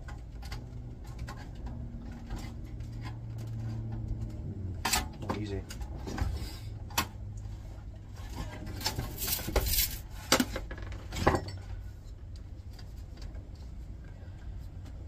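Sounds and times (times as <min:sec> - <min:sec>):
metal chassis clanking: 0:00.0 - 0:12.1.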